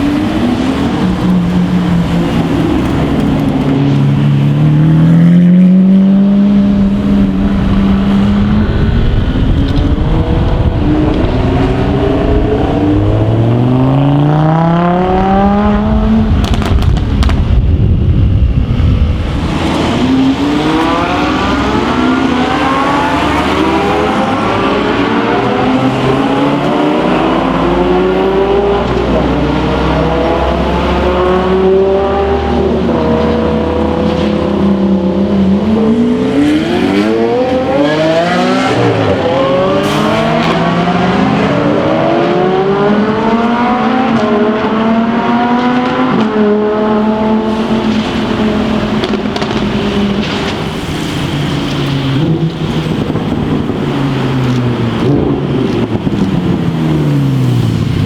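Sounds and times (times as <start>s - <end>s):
car engines accelerating hard: 0.0s - 58.0s
exhaust crackles: 0.0s - 58.0s.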